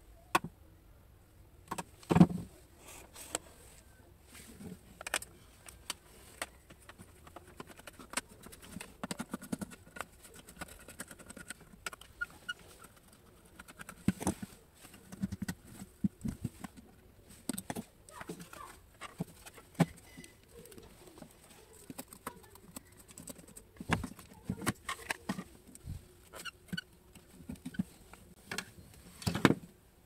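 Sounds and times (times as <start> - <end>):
plastic parts clicking and rattling: 4.5 - 29.6.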